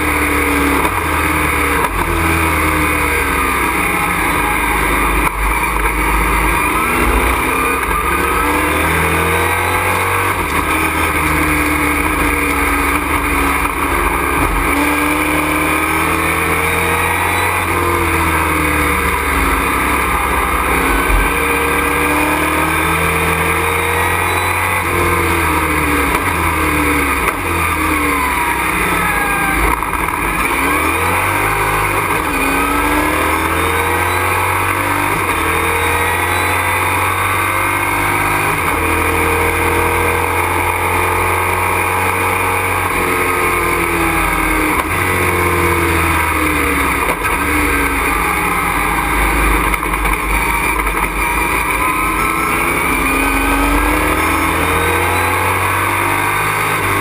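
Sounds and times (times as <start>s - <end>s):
road and wind noise: 0.0s - 57.0s
truck engine accelerating: 0.0s - 57.0s.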